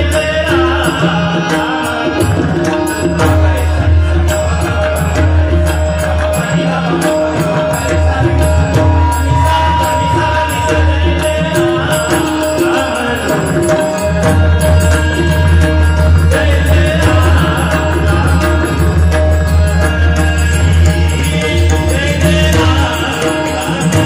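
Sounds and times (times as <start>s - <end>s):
man singing: 0.0s - 24.0s.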